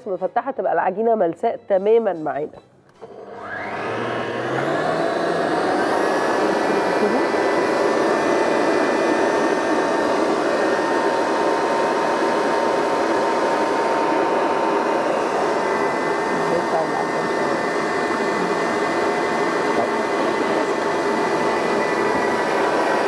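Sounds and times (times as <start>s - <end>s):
stand mixer motor running: 3.0s - 23.0s.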